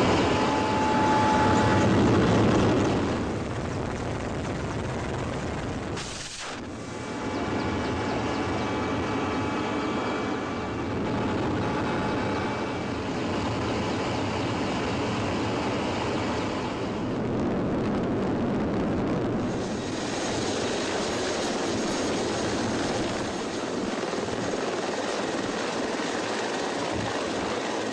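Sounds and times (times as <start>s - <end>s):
helicopter engines and rotor: 0.0s - 27.9s
thin turbine whine: 0.0s - 27.9s.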